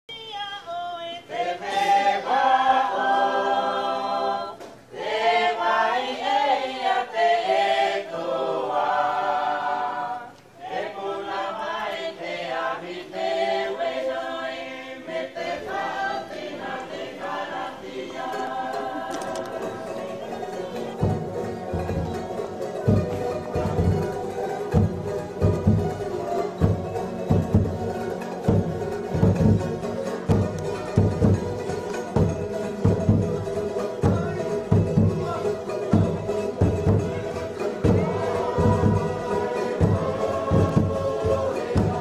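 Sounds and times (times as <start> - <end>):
choir singing a hymn: 0.7 - 42.0.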